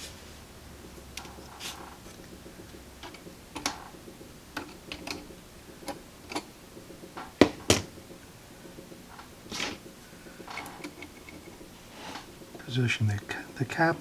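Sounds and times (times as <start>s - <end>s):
hand tools clicking and tapping: 0.8s - 13.9s.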